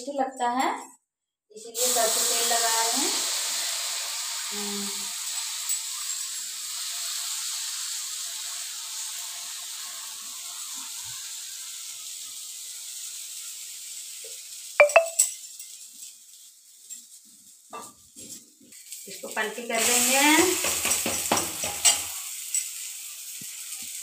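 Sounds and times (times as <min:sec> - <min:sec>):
batter sizzling on hot pan: 0:01.6 - 0:24.0.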